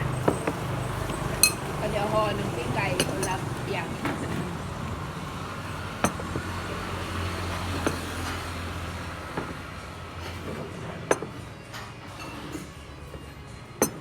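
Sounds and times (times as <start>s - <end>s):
road traffic rumble: 0.0s - 14.0s
utensils clinking against bowls: 0.0s - 14.0s.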